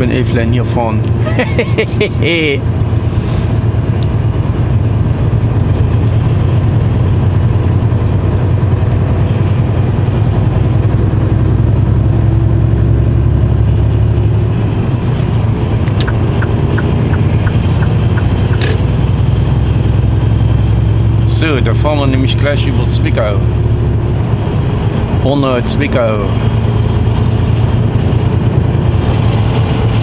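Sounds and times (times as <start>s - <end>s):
truck engine drone: 0.0s - 30.0s
tyre and road noise: 0.0s - 30.0s.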